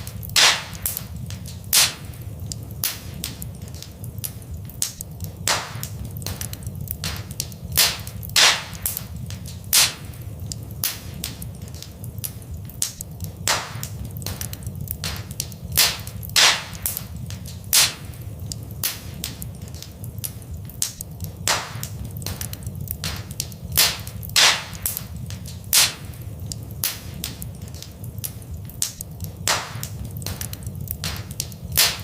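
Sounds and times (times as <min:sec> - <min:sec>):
fireplace fire crackling: 0:00.0 - 0:32.0.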